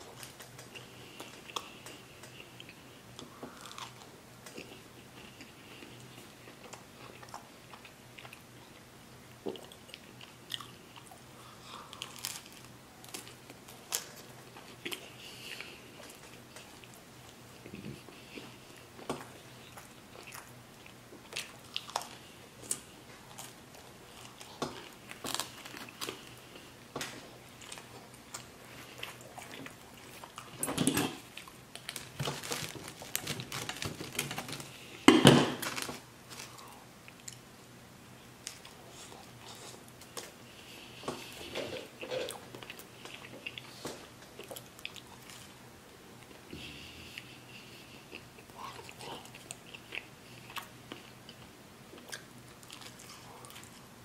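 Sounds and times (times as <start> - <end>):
chewing pizza: 0.0 - 37.4, 38.4 - 45.6, 46.2 - 54.0.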